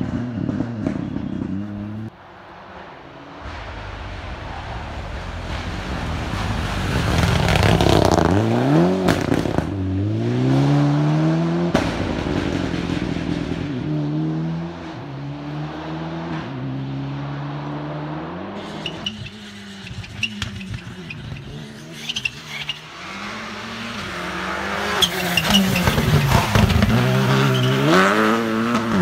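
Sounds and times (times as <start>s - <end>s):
rally car engine accelerating: 3.4s - 29.0s.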